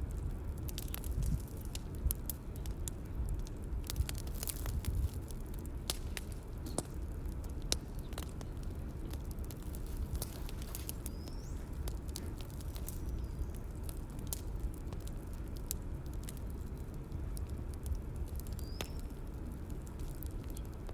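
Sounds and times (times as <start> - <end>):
low steady rumble: 0.0 - 20.9
wood fire crackling and popping: 0.0 - 20.9.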